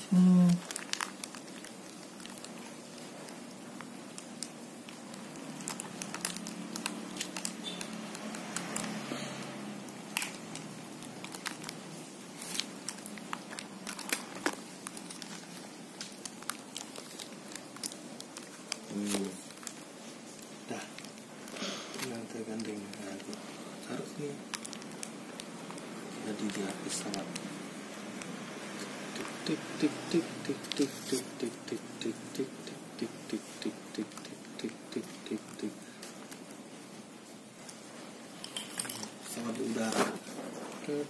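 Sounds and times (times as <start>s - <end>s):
packing tape and cardboard crinkling: 0.2s - 9.5s, 10.1s - 29.6s, 35.2s - 41.0s.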